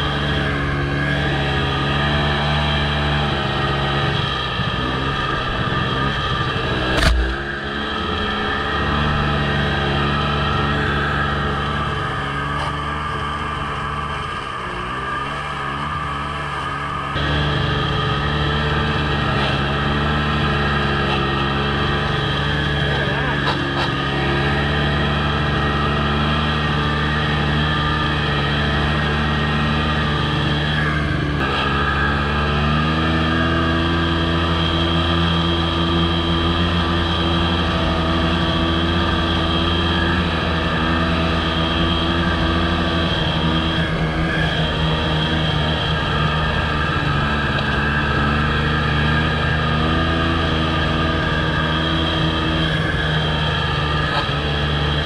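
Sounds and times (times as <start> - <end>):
snowmobile engine under load: 0.0 - 55.0.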